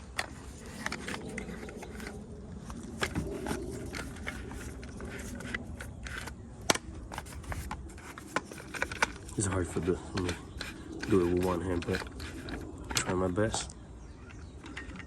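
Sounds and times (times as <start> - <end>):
container handling clicks and scraping: 0.0 - 15.0.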